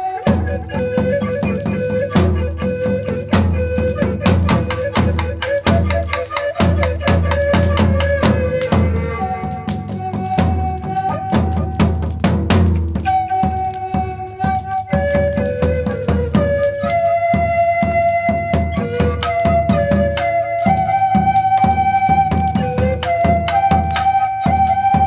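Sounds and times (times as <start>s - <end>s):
flute melody: 0.0s - 25.0s
steady drum beat: 0.0s - 25.0s.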